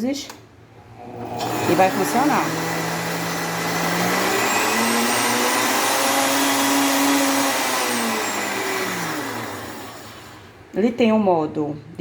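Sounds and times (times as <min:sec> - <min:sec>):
blender motor running: 0:01.0 - 0:10.7.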